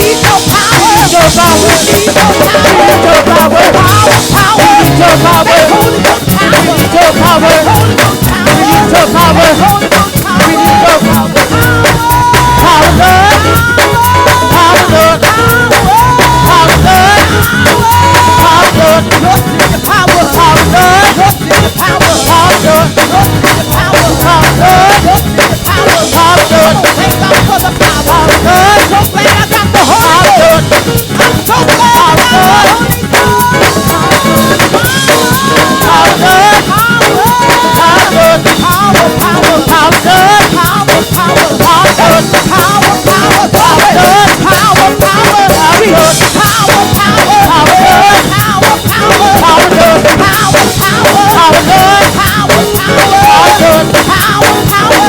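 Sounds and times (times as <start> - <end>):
driving drum kit: 0.0 - 55.0
gospel band playing: 0.0 - 55.0
people singing: 0.0 - 55.0.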